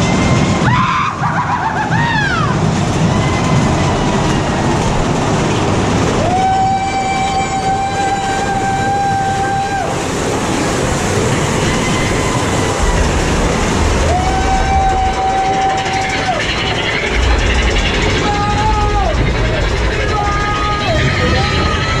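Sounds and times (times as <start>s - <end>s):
roller coaster rumbling on track: 0.0s - 22.0s.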